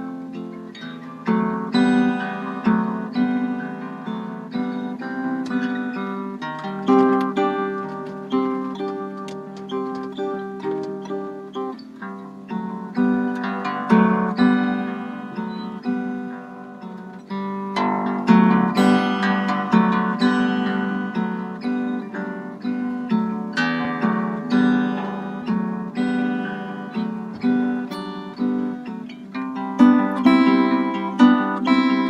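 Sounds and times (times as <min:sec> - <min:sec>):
fingerstyle harp guitar: 0:00.0 - 0:32.0.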